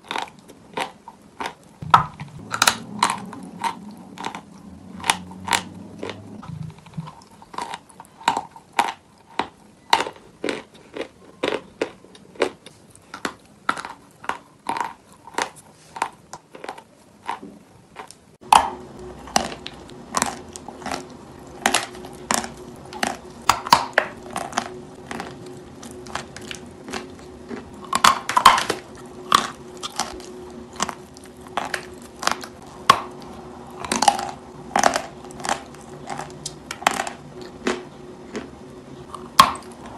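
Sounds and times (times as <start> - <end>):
crunching and chewing chalk: 0.0 - 39.9
faint steady hum: 0.0 - 39.9.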